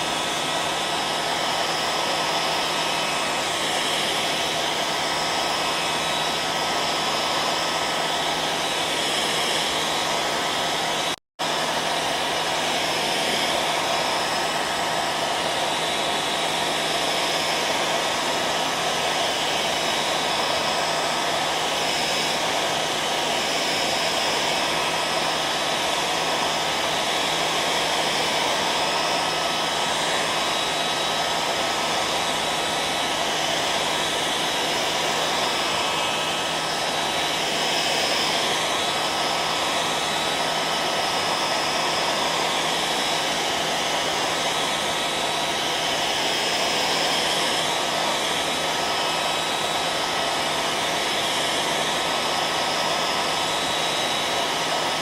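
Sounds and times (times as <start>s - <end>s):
hairdryer running: 0.0s - 55.0s.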